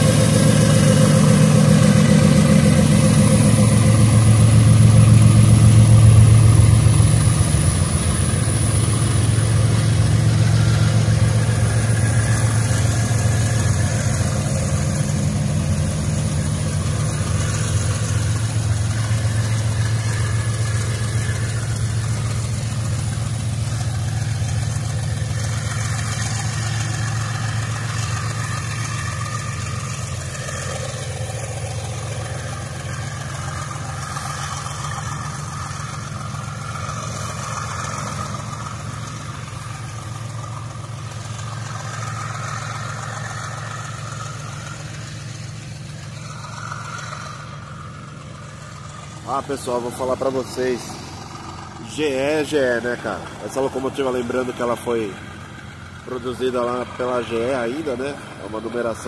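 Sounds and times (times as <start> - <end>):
freight wagons rolling on rails: 0.0 - 59.0
locomotive engines running loudly: 0.0 - 59.0.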